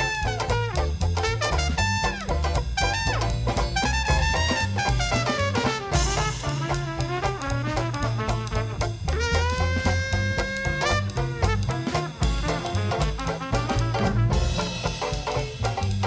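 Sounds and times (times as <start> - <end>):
bass notes: 0.0 - 16.0
drums: 0.0 - 16.0
trombone slides: 0.0 - 16.0
trumpet: 0.0 - 16.0.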